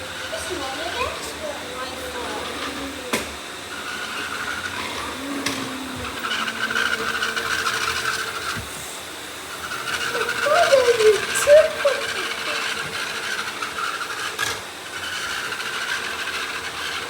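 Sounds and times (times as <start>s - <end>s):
robot vacuums whirring: 0.0s - 17.0s.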